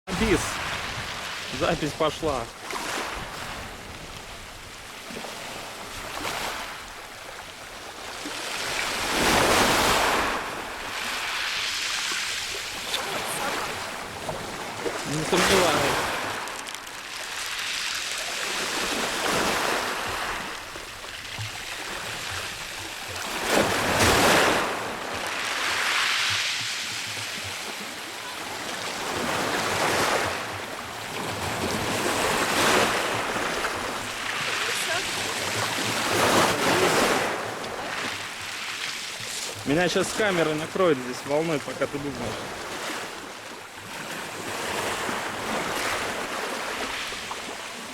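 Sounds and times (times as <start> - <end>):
waves breaking: 0.1 - 47.9.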